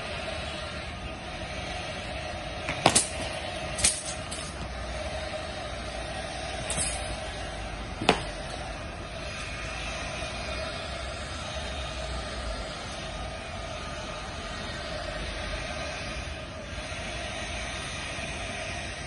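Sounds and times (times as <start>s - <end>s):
steady background rumble: 0.0s - 19.0s.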